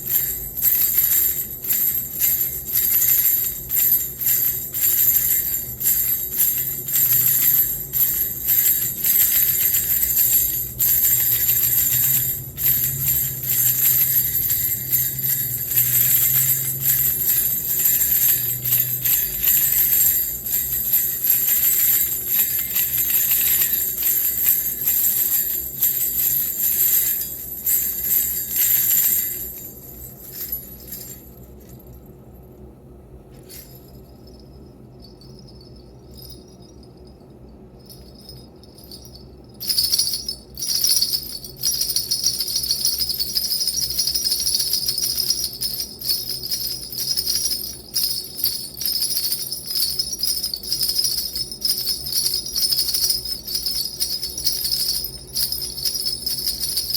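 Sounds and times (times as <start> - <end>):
wooden rattle shaken jingling: 0.0 - 31.9, 37.8 - 56.9.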